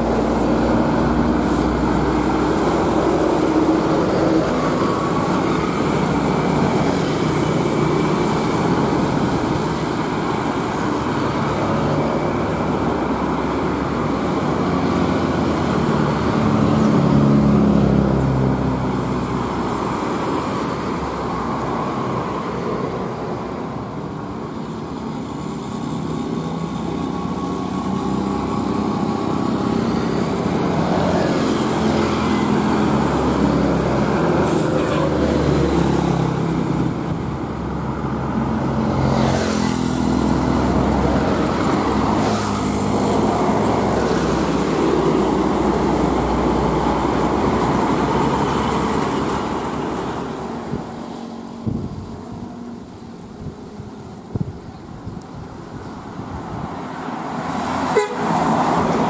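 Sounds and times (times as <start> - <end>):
road traffic driving past: 0.0 - 59.0.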